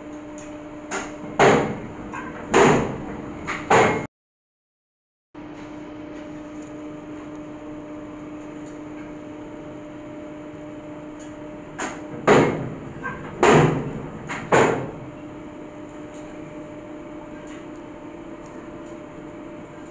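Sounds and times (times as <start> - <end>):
low machine hum: 0.0 - 4.0, 5.4 - 19.9.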